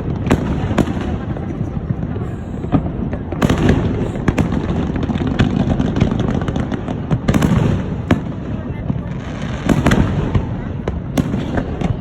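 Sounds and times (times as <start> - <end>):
firework bang: 0.0 - 12.0
firework cracks and pops: 0.0 - 12.0.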